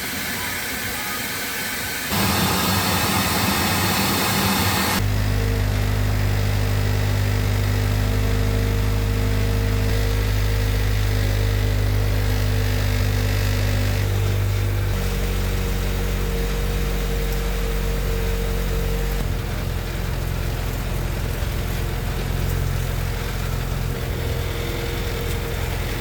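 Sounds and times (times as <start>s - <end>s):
car engine idling: 2.1s - 26.0s.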